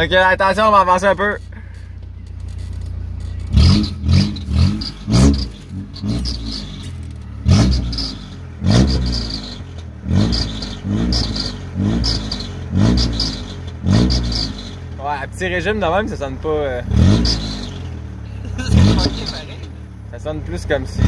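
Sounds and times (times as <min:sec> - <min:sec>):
rattle under car: 0:00.0 - 0:15.1, 0:15.9 - 0:19.8
car engine revving: 0:00.0 - 0:21.0.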